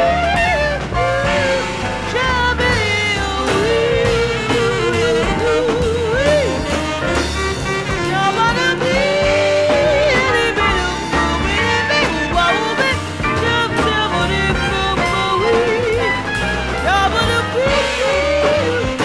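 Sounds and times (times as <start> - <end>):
jazz song with vibrato melody: 0.0 - 19.0
walking bass: 0.0 - 19.0.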